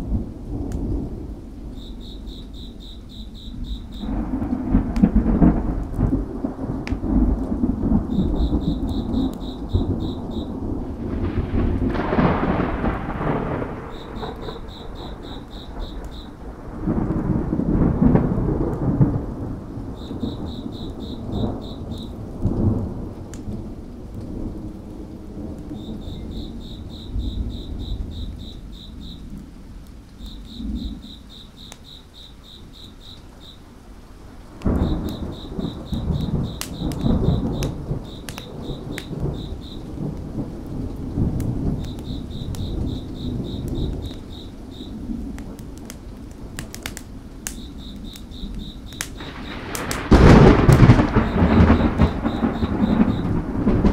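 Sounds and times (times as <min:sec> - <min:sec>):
rolling thunder: 0:00.0 - 0:33.5, 0:34.2 - 0:53.9
steady rain: 0:00.0 - 0:53.9
wood fire crackling: 0:00.0 - 0:53.9
cricket chirping: 0:00.6 - 0:06.2, 0:07.1 - 0:22.8, 0:25.4 - 0:53.9.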